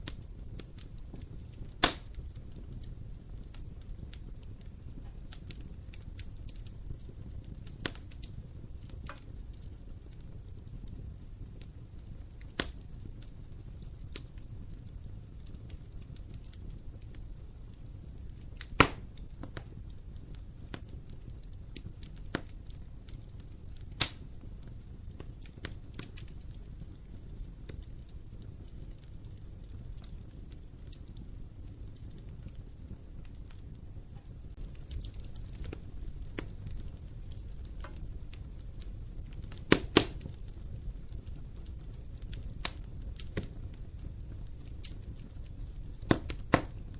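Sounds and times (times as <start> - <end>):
fire crackling and popping: 0.0 - 46.9
fire low rumble: 0.0 - 46.9.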